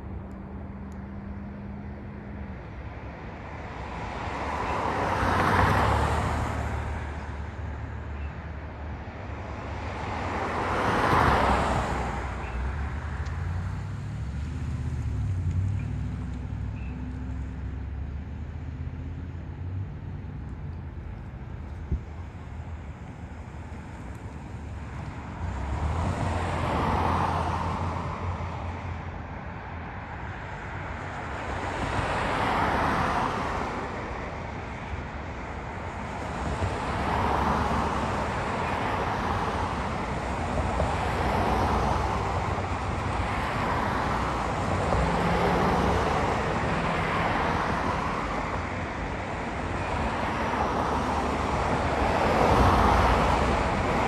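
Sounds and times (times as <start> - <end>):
cars passing: 0.0 - 54.0
steady low traffic hum: 0.0 - 54.0.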